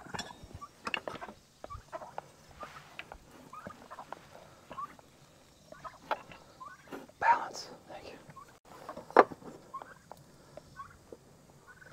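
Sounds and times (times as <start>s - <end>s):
poultry chirping and clucking: 0.0s - 7.2s, 8.3s - 11.9s.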